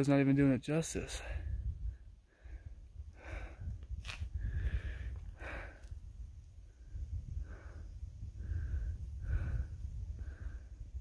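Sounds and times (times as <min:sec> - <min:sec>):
person breathing hard: 0:01.2 - 0:11.0.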